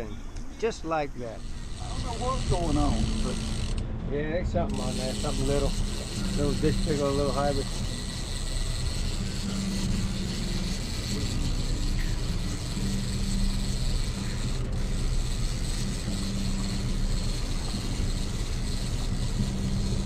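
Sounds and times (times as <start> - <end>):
steady low hum: 0.0 - 20.0
fishing reel whirring and clicking: 0.7 - 3.9, 4.5 - 20.0.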